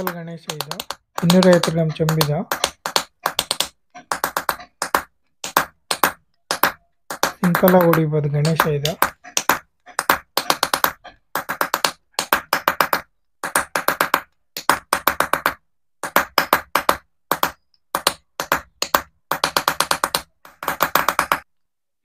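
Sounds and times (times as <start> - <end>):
hammer tapping metal tool: 0.0 - 21.5.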